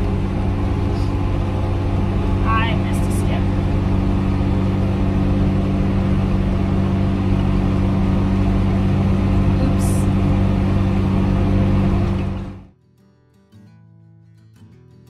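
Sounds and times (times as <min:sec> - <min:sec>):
tractor engine running under load: 0:00.0 - 0:12.7.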